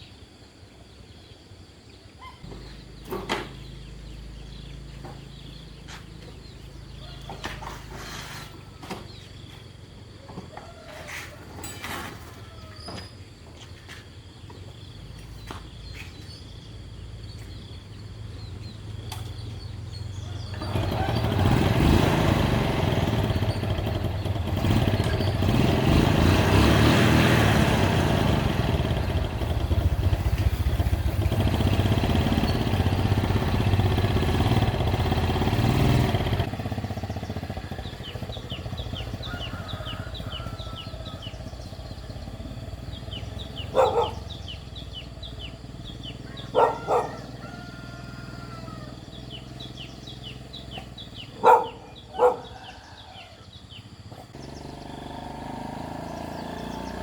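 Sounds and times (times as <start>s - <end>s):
motorcycle engine running: 2.5s - 11.2s, 13.7s - 57.0s.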